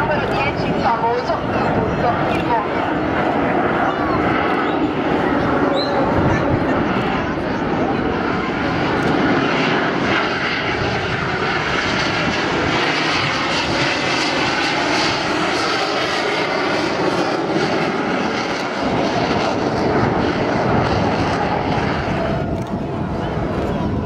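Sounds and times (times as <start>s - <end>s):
jet aircraft noise: 0.0s - 24.0s.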